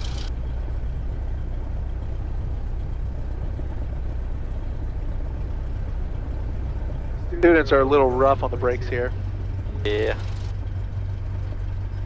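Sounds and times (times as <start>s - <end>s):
aircraft piston engine droning: 0.0s - 12.0s.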